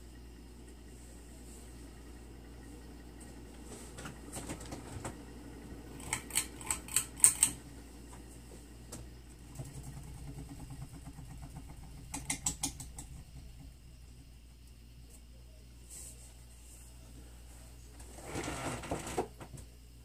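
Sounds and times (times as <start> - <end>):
ceiling fan humming: 0.0 - 20.0.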